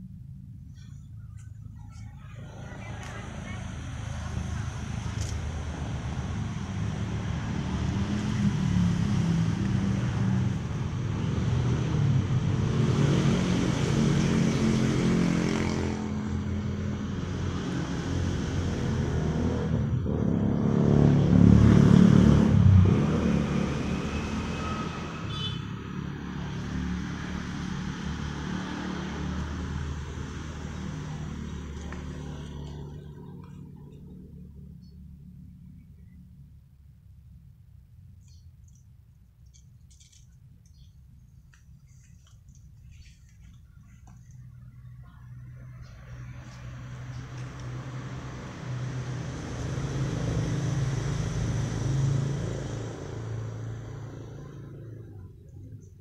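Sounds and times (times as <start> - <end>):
vehicle engines passing by: 0.0 - 56.0.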